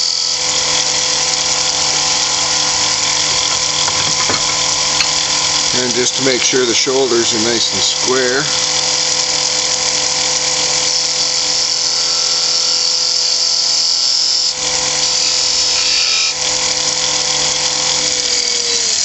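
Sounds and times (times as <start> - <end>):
tool cutting wood hissing: 0.0 - 19.0
wood lathe whining: 0.0 - 19.0.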